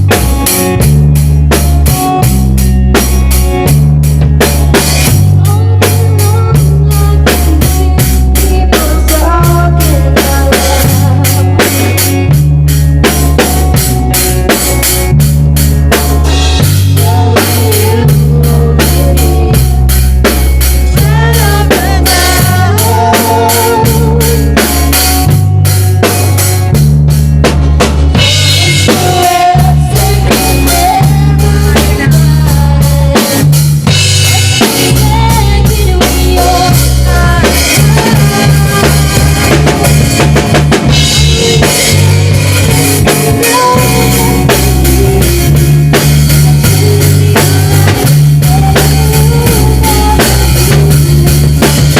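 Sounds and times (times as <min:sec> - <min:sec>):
bass guitar line: 0:00.0 - 0:51.9
drum kit beat: 0:00.0 - 0:51.9.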